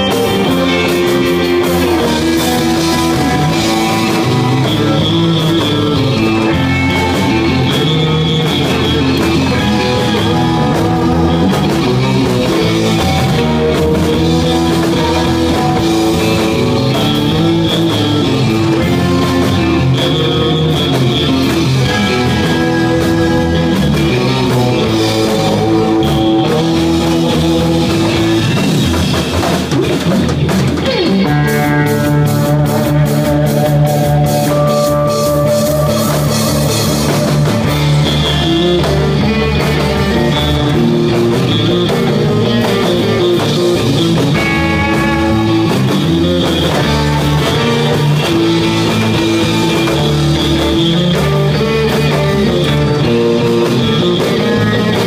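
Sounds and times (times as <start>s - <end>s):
chopped rhythmic music: 0.0s - 55.0s
drum kit: 0.0s - 55.0s
electric guitar melody: 0.0s - 55.0s.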